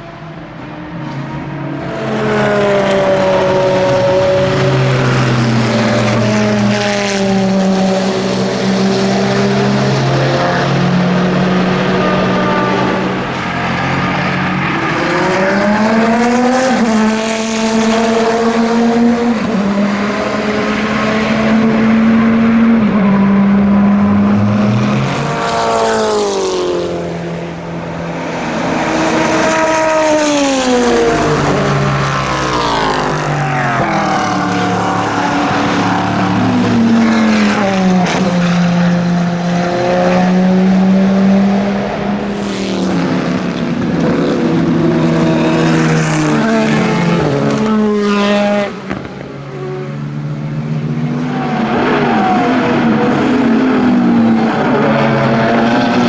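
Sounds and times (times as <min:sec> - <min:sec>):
racing car engine passing: 0:00.6 - 0:56.0.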